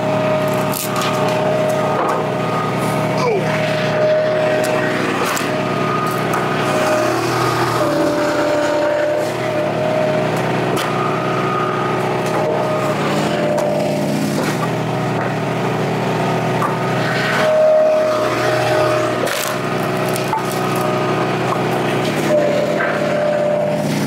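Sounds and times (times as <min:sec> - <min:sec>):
high whine: 0:00.0 - 0:23.9
log splitter engine running: 0:00.0 - 0:24.0.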